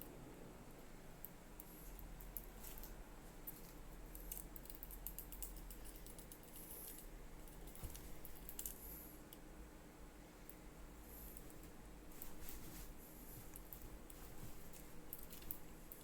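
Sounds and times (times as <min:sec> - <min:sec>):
low steady hum: 0:00.0 - 0:16.0
light clicks and rattles: 0:01.2 - 0:09.4, 0:11.2 - 0:16.0.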